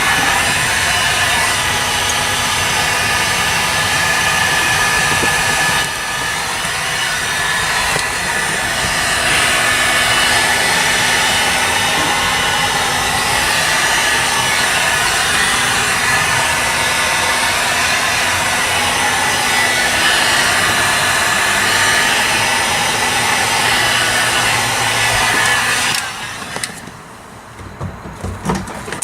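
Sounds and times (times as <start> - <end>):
electric blower motor humming: 0.0 - 27.4.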